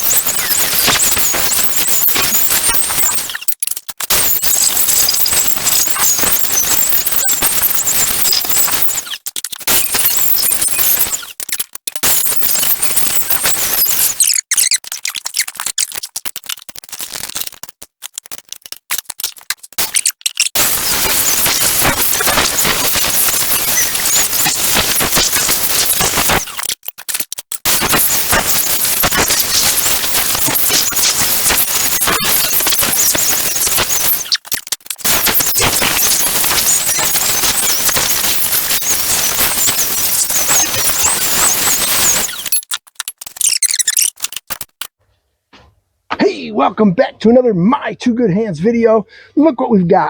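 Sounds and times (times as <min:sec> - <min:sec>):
welding arc crackling on steel: 0:00.0 - 0:45.0.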